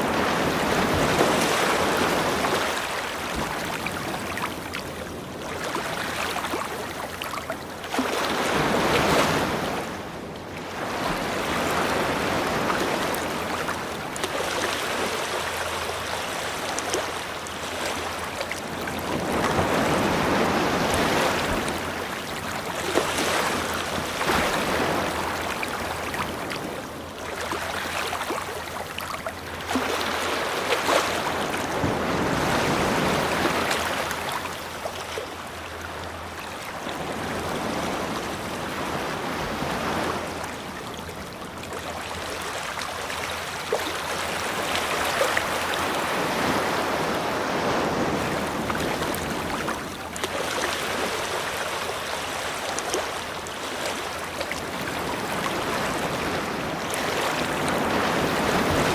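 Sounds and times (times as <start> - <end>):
ocean waves washing onto beach: 0.0 - 58.9.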